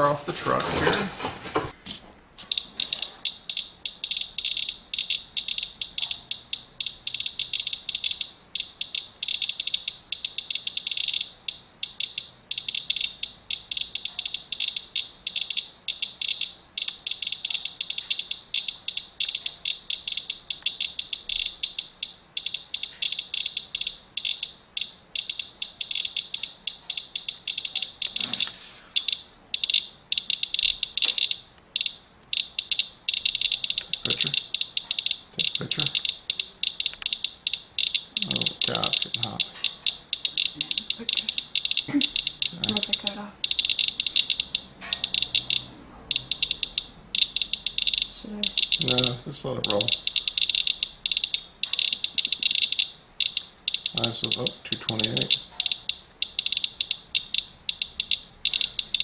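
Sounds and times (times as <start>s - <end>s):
geiger counter chirping: 2.5s - 59.0s.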